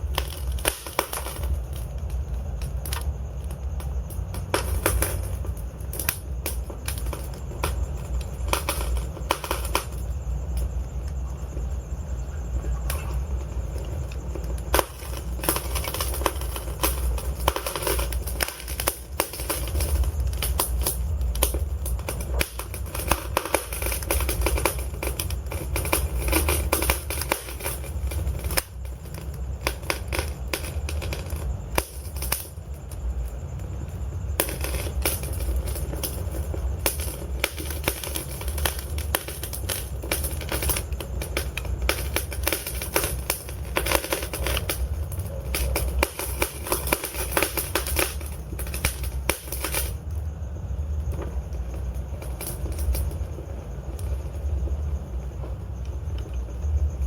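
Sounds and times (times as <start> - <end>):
burning wood crackling: 0.0 - 57.0
low rumble of flames: 0.0 - 57.0.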